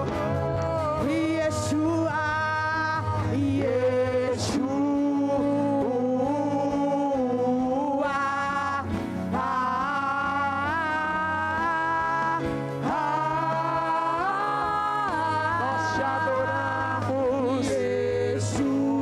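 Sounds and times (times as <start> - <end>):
instrumental accompaniment: 0.0 - 19.0
person singing long notes: 0.0 - 19.0.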